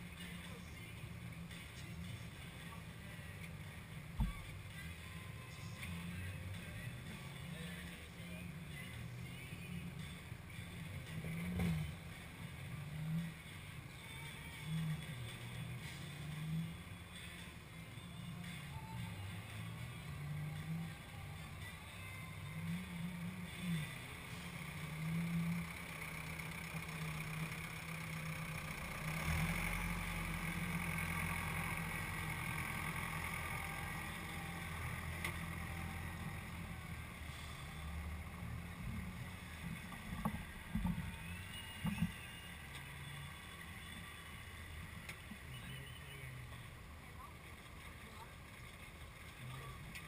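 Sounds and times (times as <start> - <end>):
tractor engines at low revs: 0.0 - 50.0.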